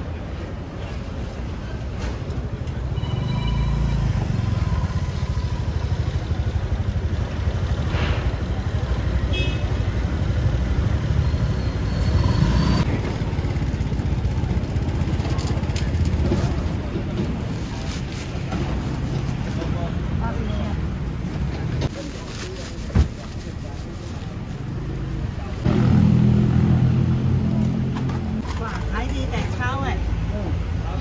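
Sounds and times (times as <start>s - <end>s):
traffic engine rumble: 0.0s - 31.0s.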